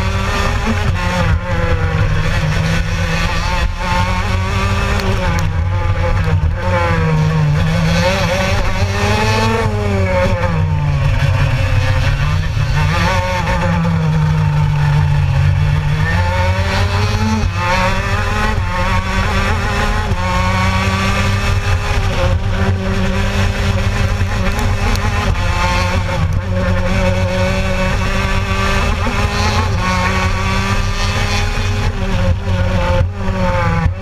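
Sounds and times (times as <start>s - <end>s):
kart engine revving: 0.0s - 34.0s.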